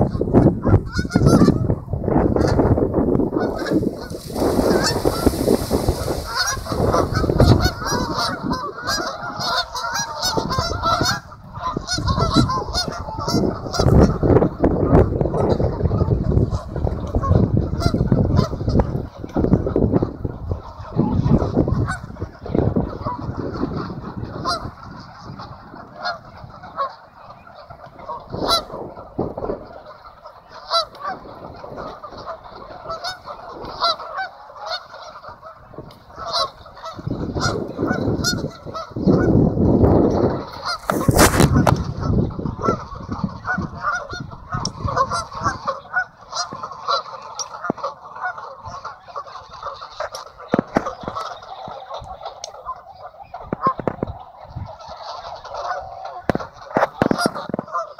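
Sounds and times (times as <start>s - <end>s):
geese honking: 0.0s - 57.9s.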